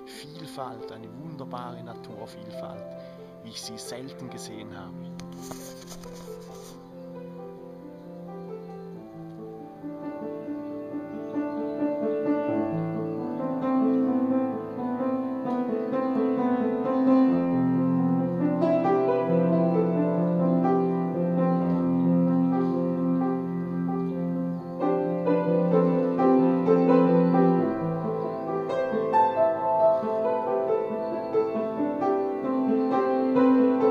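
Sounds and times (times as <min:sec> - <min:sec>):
slow piano chords: 0:00.0 - 0:33.9.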